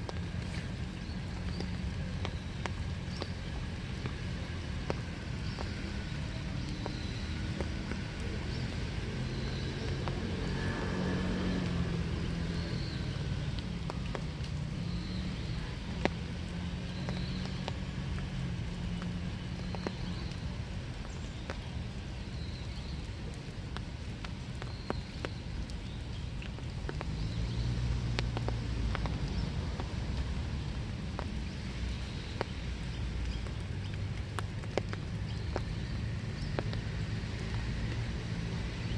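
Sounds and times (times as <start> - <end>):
drips ticking on hard surfaces: 0.0 - 38.9
steady rain: 0.0 - 38.9.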